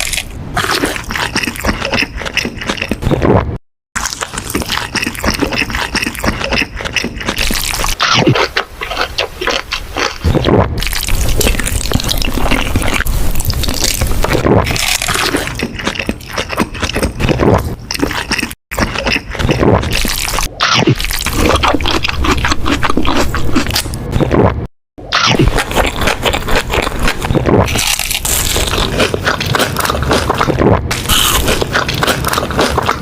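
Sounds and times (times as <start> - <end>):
wet chewing and crunching food: 0.0 - 33.0.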